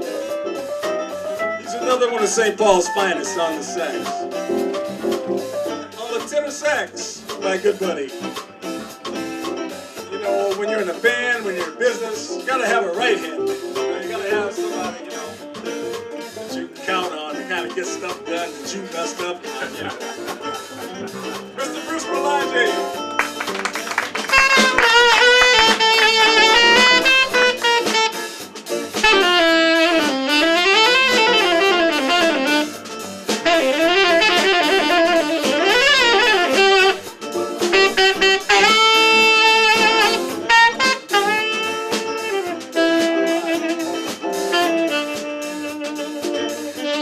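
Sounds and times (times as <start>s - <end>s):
live band accompaniment: 0.0s - 47.0s
tenor saxophone jazz solo: 0.0s - 47.0s.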